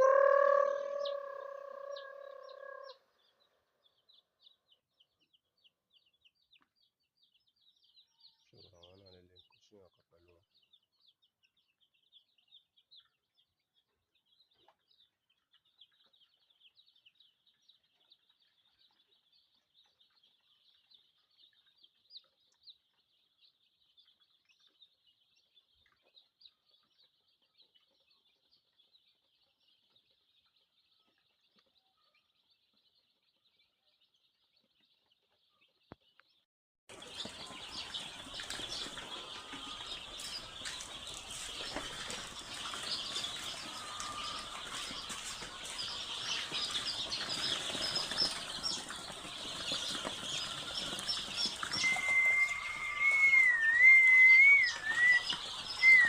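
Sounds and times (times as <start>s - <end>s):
chicks chirping and cheeping: 0.0s - 56.0s.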